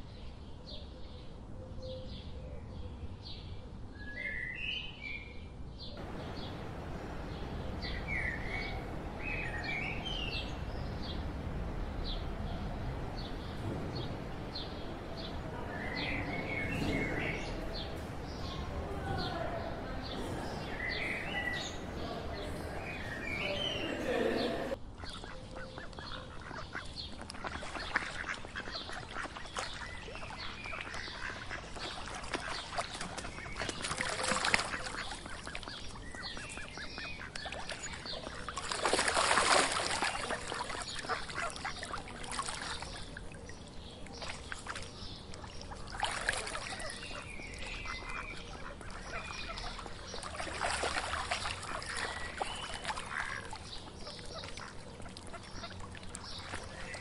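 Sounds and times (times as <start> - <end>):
ducks quacking: 6.0 - 43.2, 44.3 - 57.0.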